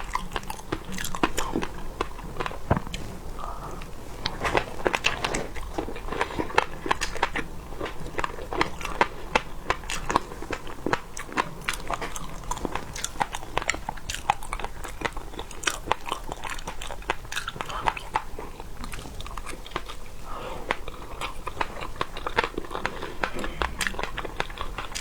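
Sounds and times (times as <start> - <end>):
person chewing and biting: 0.0 - 25.0.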